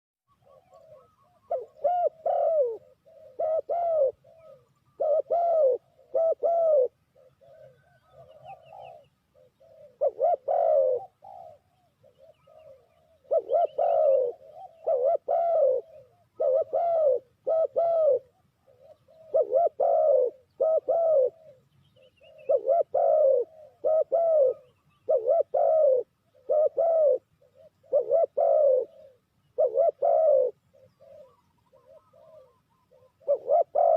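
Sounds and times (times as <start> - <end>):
dove cooing: 0.3 - 33.9
faint high bird chirps: 0.3 - 33.9.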